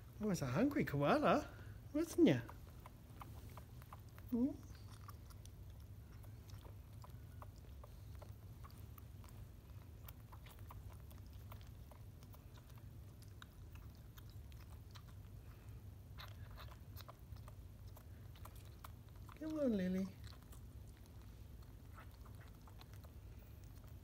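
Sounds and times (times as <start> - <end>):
low steady hum: 0.0 - 24.0
sucking clicks and smacks: 2.1 - 19.5, 20.2 - 24.0.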